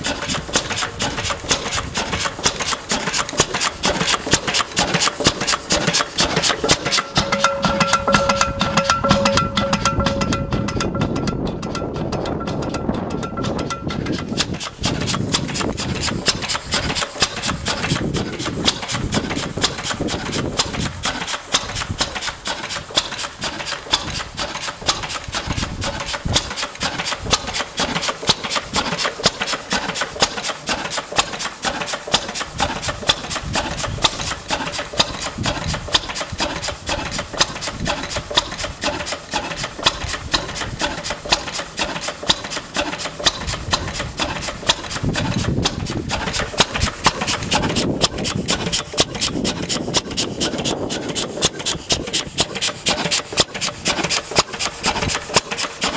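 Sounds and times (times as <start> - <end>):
stationary engine clattering: 0.0 - 55.9.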